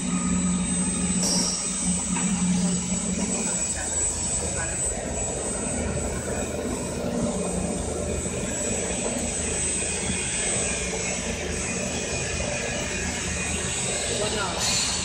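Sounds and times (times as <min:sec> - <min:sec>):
mixer motor hum with whine: 0:00.0 - 0:15.0.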